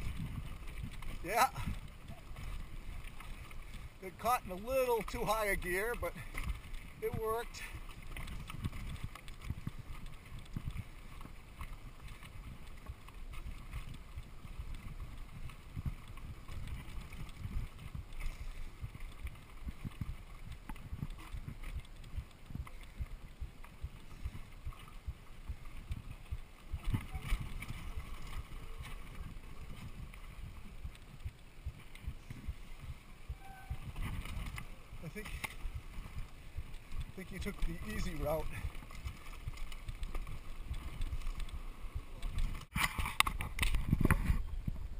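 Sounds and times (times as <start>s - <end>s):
bike and camera rattling: 0.0s - 44.9s
bike tyres rumbling on dirt: 0.0s - 44.9s.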